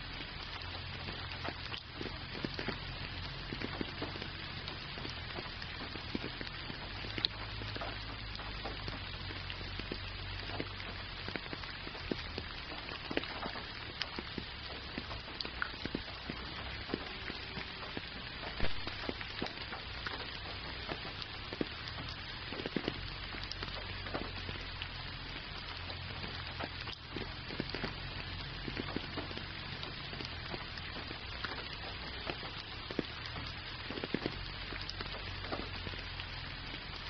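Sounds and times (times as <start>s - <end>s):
gentle rain hiss: 0.0s - 37.0s
raindrop taps: 0.0s - 37.0s.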